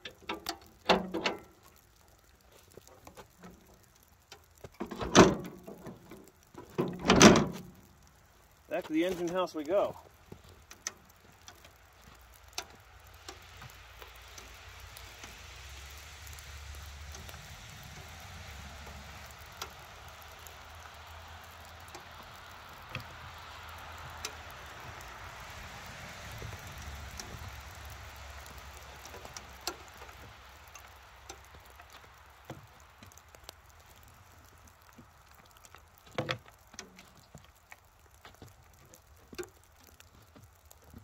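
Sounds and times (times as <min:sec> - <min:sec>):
steady rain hissing: 0:00.0 - 0:41.0.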